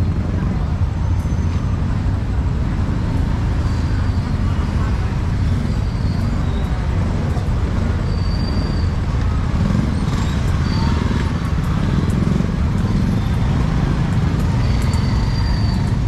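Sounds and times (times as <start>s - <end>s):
faint voices: 0.0s - 16.0s
road traffic rumble: 0.0s - 16.0s.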